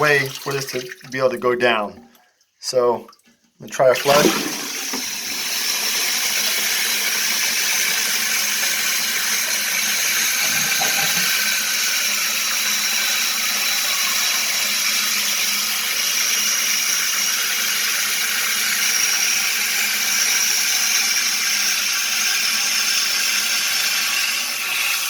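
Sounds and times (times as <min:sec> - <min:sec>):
toilet tank refilling: 0:00.0 - 0:25.0.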